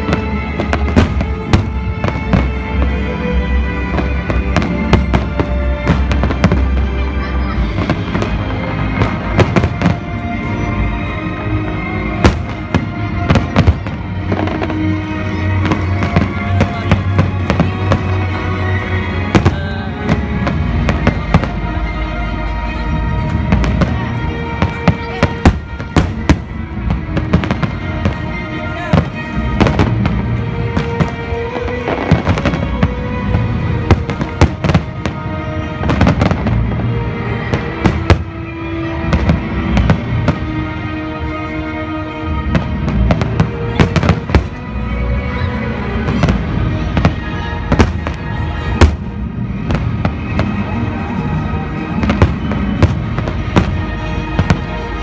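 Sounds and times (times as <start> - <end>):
fireworks bangs: 0.0 - 3.2, 3.8 - 10.7, 11.7 - 22.0, 23.0 - 40.7, 42.4 - 55.0
music playing: 0.0 - 55.0.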